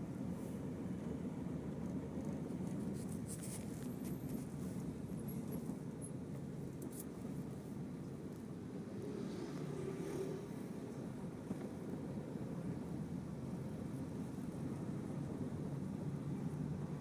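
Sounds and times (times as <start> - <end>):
vehicle rumble from inside: 0.0 - 17.0.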